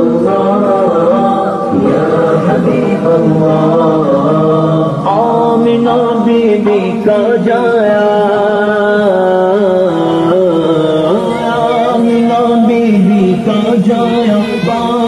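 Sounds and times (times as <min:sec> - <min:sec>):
person chanting devotional song: 0:00.0 - 0:15.0.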